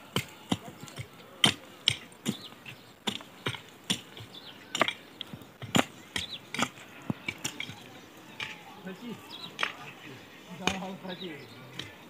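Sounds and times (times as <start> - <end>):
hoe striking stony soil: 0.0 - 8.6, 9.3 - 9.9, 10.6 - 11.0, 11.7 - 12.0.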